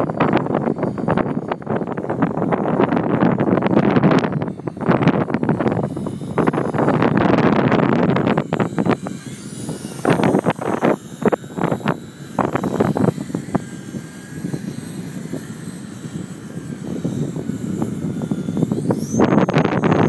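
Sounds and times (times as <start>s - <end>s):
model plane motor whining: 0.0s - 20.0s
wind buffeting microphone: 0.0s - 20.0s.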